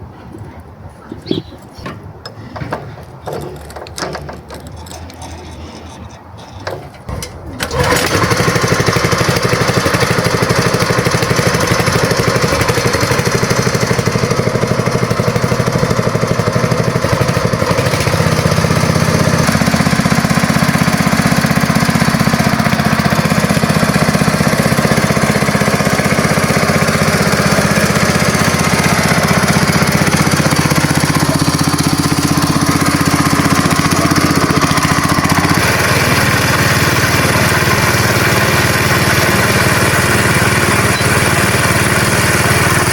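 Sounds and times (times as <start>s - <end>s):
engine running: 1.3s - 42.9s.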